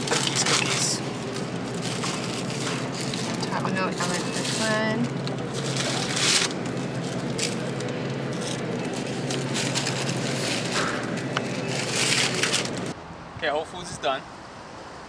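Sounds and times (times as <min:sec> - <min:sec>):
crackling rustles: 0:00.0 - 0:13.0.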